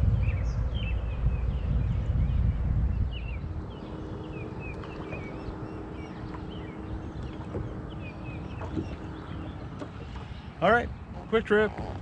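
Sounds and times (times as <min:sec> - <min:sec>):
steady low hum: 0:00.0 - 0:12.0
small birds chirping: 0:00.2 - 0:12.0.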